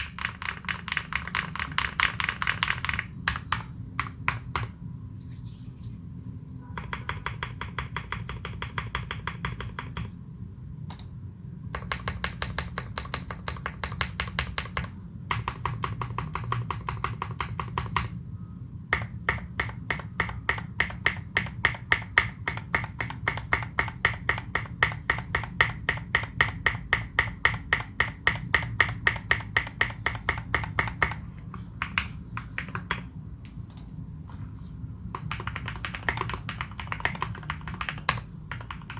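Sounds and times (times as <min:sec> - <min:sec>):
mechanical keyboard typing: 0:00.0 - 0:04.8, 0:06.8 - 0:10.2, 0:11.7 - 0:18.2, 0:18.9 - 0:33.1, 0:35.0 - 0:38.9.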